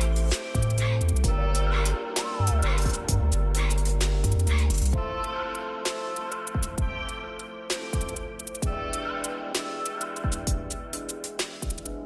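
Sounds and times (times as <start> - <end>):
hip-hop music with heavy bass: 0.0 - 12.0.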